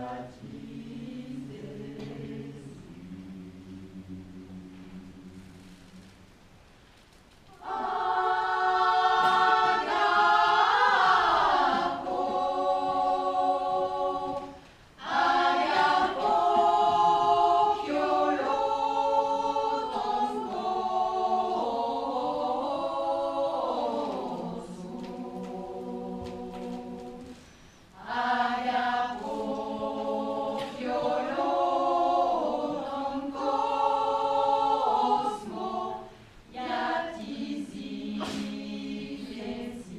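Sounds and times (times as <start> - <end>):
choir singing a cappella: 0.0 - 6.3, 7.5 - 39.9.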